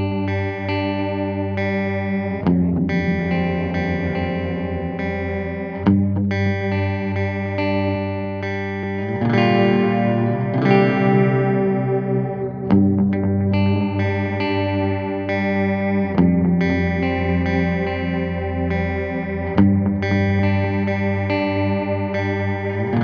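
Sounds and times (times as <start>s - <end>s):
electric guitar chords with delay: 0.0s - 23.0s.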